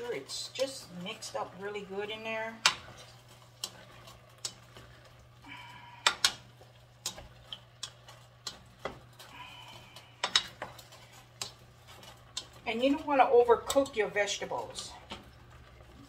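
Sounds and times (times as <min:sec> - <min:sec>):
spatula stirring food in pot: 0:00.0 - 0:16.0.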